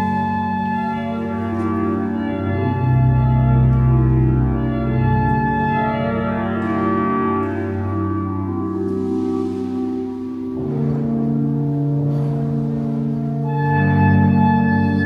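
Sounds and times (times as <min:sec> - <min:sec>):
pipe organ chords: 0:00.0 - 0:15.0.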